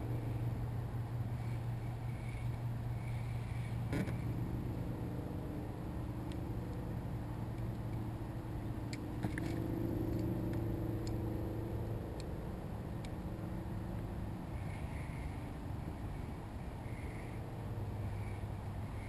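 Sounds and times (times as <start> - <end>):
distant engine hum: 0.0 - 19.0.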